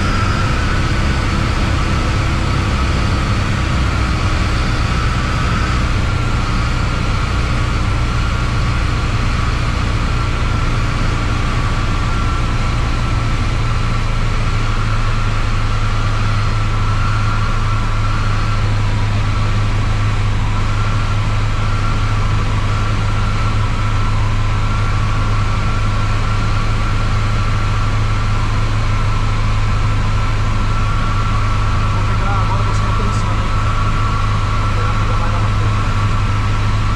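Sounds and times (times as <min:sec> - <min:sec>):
airplane cabin engine drone: 0:00.0 - 0:36.9.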